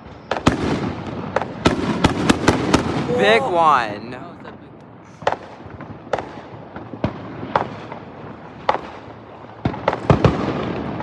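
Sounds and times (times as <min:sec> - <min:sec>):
crackling fireworks bursts: 0:00.0 - 0:11.0
fireworks bangs: 0:00.0 - 0:11.0.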